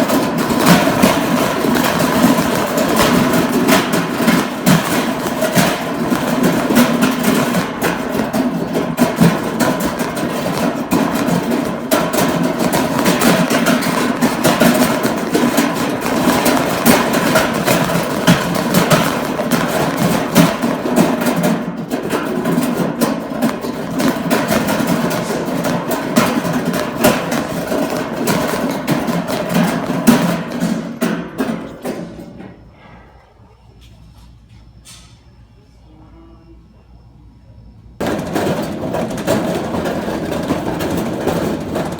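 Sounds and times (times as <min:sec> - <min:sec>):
shopping cart wheels rattling: 0:00.0 - 0:32.4, 0:38.0 - 0:41.9.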